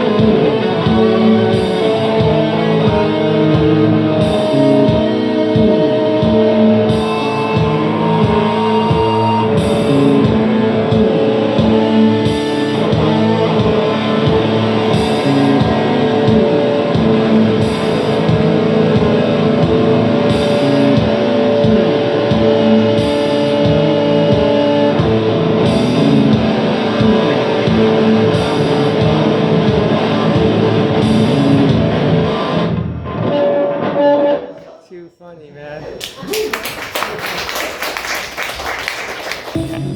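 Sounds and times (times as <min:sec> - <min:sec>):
electric guitar playing rock: 0:00.0 - 0:34.5.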